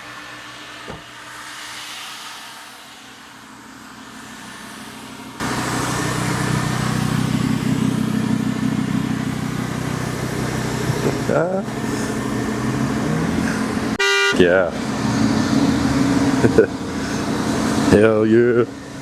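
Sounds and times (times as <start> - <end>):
car engine running: 3.4 - 19.0.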